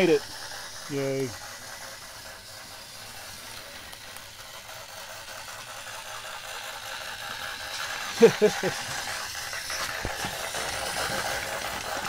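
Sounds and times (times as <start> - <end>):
toy train cars rattling: 0.0 - 12.0
toy train motor whirring: 0.0 - 12.0.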